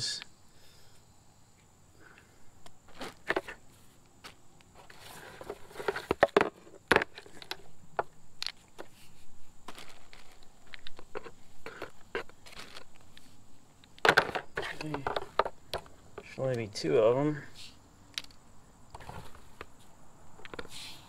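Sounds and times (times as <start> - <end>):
bungee cords rustling and clicking: 2.6 - 16.6, 17.6 - 21.0.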